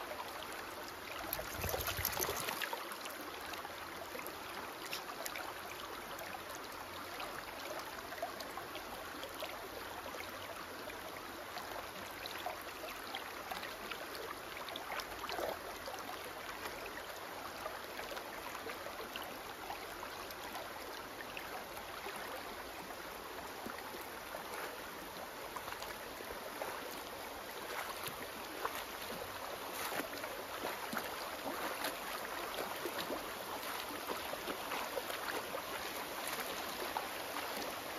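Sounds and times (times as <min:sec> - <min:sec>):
creek running over rocks: 0:00.0 - 0:37.9.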